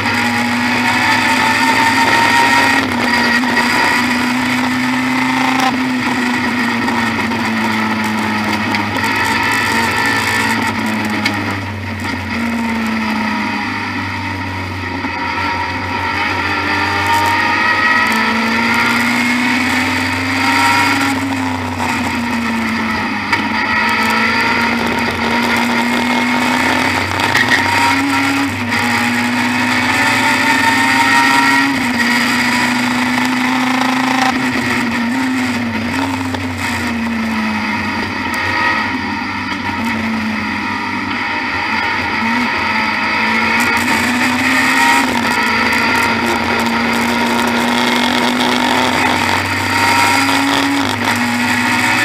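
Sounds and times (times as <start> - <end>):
racing car engine revving: 0.0 - 52.0.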